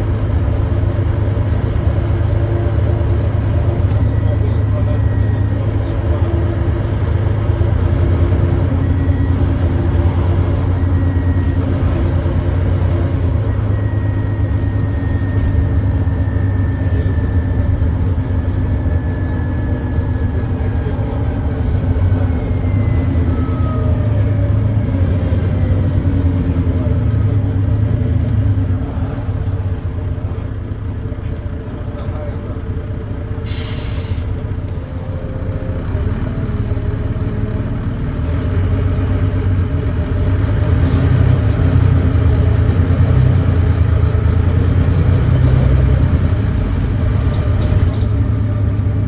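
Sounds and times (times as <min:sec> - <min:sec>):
bus diesel engine rumbling: 0:00.0 - 0:49.0.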